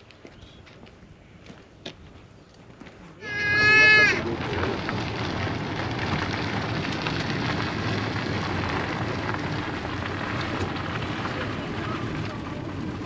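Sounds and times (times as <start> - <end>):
road noise on gravel: 0.0 - 13.0.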